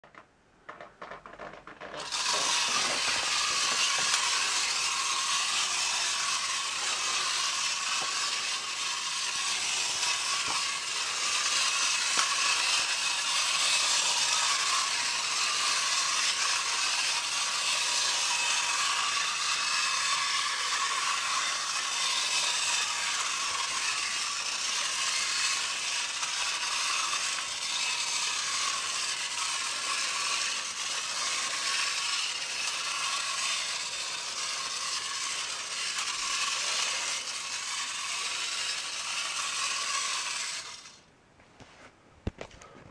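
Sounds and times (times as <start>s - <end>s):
clockwork toy whirring: 1.8s - 41.1s.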